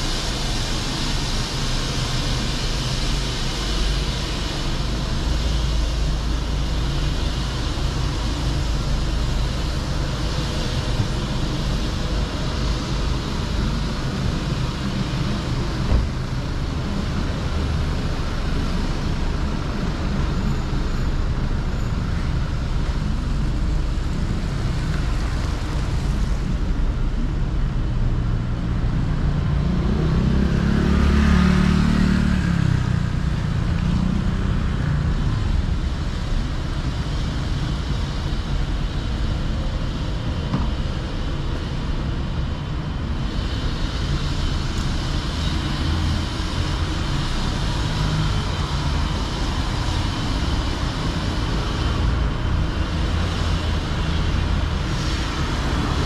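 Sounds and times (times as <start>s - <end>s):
city street traffic: 0.0s - 56.0s.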